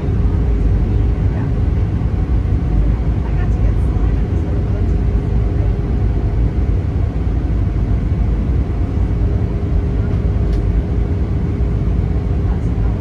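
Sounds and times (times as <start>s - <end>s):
airplane engines and airflow rumble: 0.0s - 13.0s.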